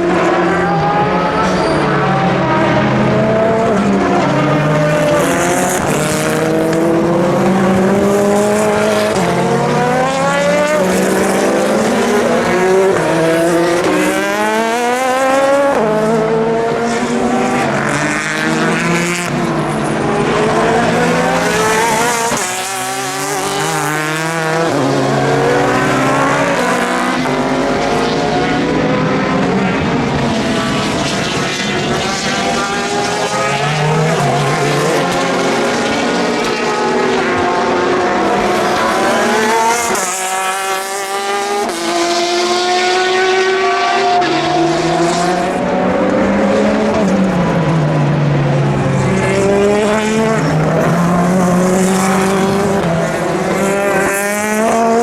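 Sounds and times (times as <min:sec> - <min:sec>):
race cars passing: 0:00.0 - 0:55.0.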